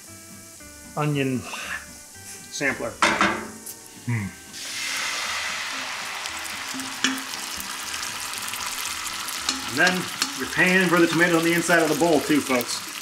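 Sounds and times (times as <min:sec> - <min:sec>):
tomatoes sizzling in a skillet: 0:00.0 - 0:13.0.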